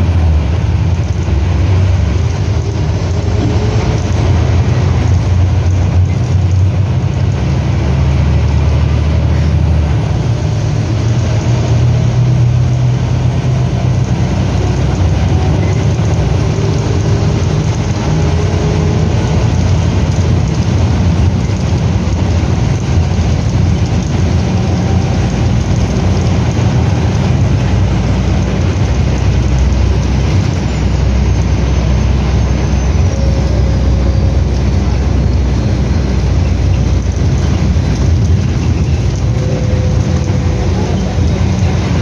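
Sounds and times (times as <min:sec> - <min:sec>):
bus diesel engine drone: 0:00.0 - 0:42.0
road and body noise: 0:00.0 - 0:42.0.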